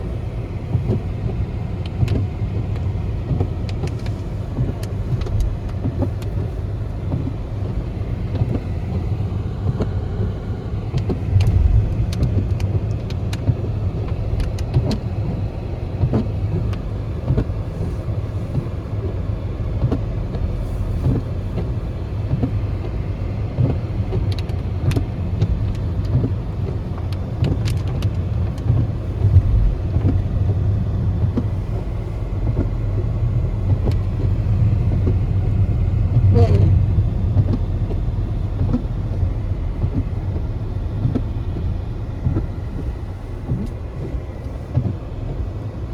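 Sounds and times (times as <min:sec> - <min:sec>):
car engine and tyres rumbling: 0:00.0 - 0:45.9.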